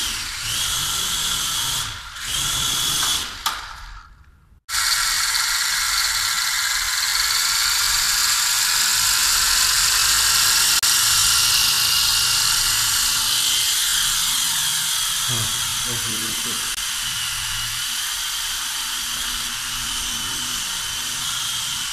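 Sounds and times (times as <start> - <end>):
toy helicopter rotors whirring: 0.0 - 3.7, 4.7 - 21.9.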